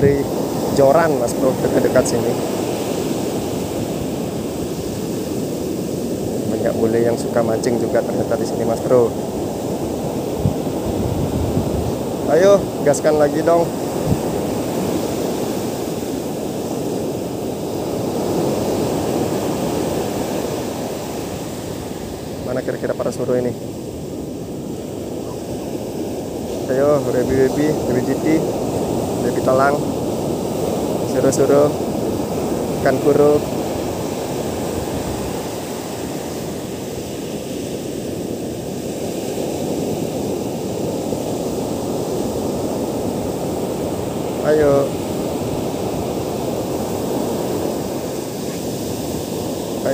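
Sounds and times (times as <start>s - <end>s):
surf breaking on a beach: 0.0s - 49.9s.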